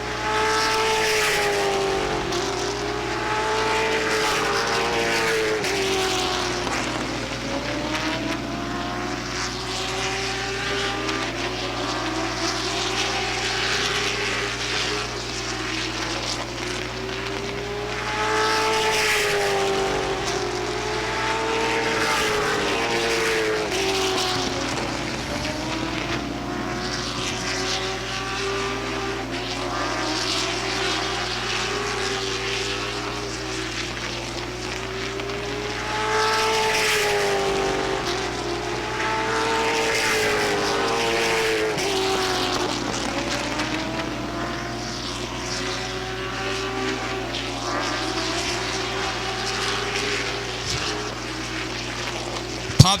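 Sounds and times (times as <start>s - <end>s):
race car engines passing: 0.0s - 53.0s.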